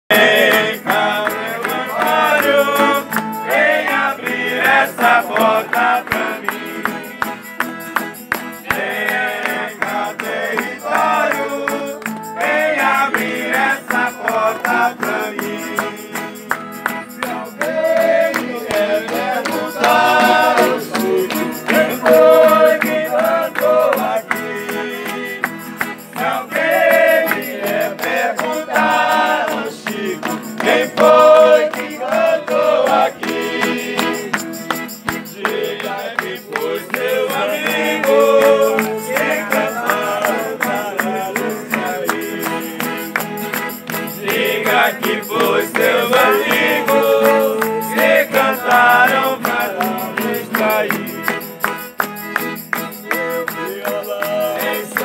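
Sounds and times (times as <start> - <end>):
men singing together: 0.1 - 7.3, 8.5 - 51.5, 53.0 - 55.0
strummed acoustic guitars: 0.1 - 55.0.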